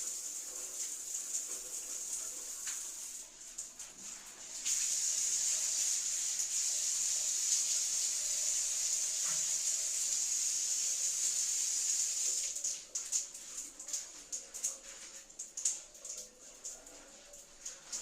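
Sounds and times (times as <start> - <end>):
water running from a tap: 0.0 - 18.0.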